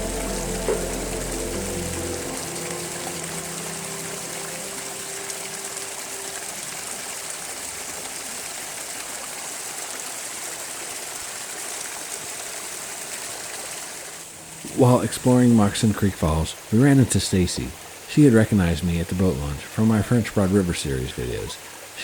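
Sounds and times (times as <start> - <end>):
small waterfall running: 0.0 - 22.0.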